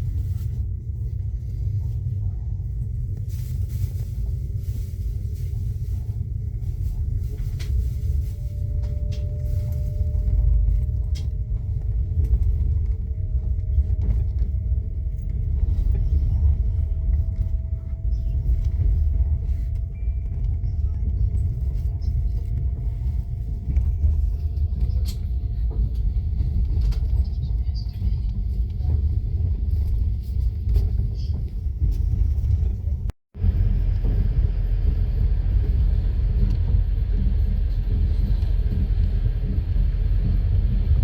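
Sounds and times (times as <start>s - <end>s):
vehicle interior low rumble: 0.0s - 41.0s.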